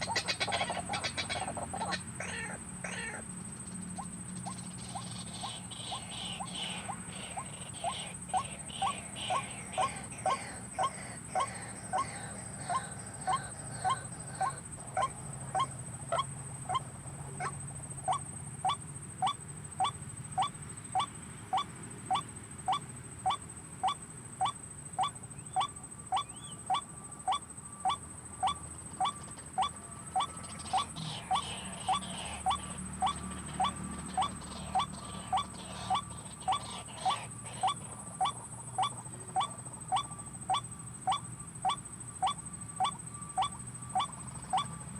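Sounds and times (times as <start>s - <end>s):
waterhen calling: 0.0s - 3.2s, 4.0s - 17.5s, 18.1s - 44.9s.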